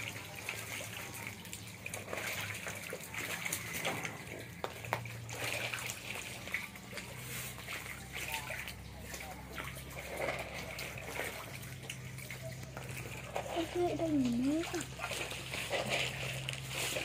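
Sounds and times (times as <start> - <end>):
shallow water trickling: 0.0 - 17.0
small splashes and ticks: 0.0 - 17.0.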